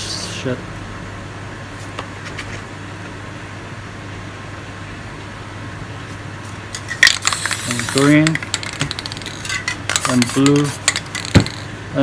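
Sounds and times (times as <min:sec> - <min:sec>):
low ventilation hum: 0:00.0 - 0:12.0.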